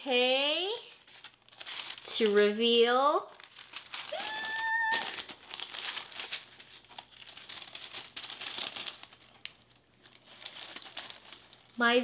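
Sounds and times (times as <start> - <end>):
paper packaging crinkling: 0.6 - 12.0.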